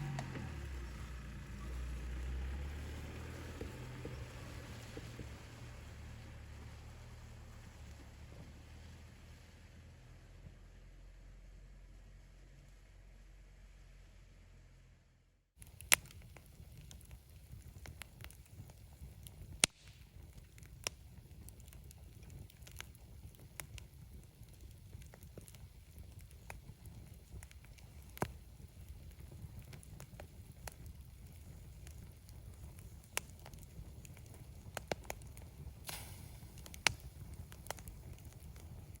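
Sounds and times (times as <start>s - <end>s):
wood campfire crackling: 0.0s - 10.6s, 15.6s - 39.0s.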